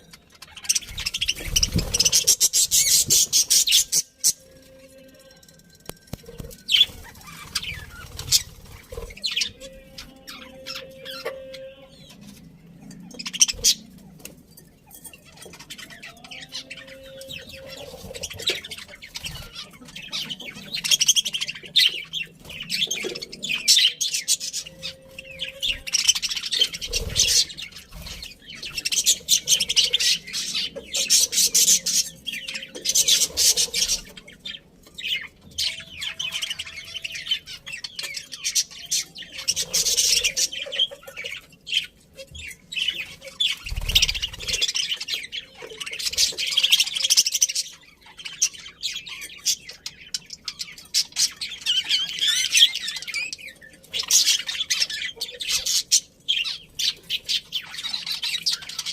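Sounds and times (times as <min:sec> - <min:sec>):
budgerigars chirping: 0:00.0 - 0:04.5, 0:15.1 - 0:58.9.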